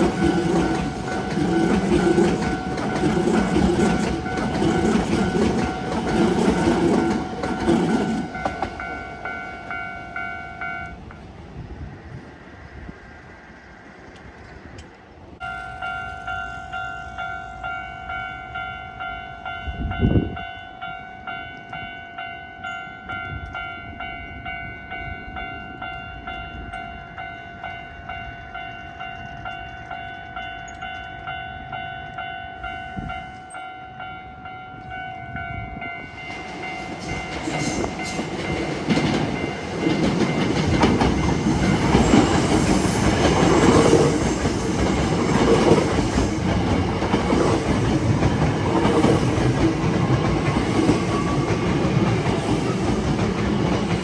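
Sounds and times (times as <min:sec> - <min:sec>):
electric train passing: 0:00.0 - 0:54.0.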